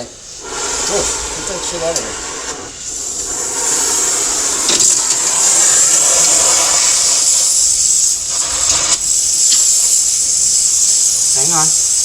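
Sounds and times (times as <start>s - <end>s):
rushing gas hiss: 0.0s - 12.0s.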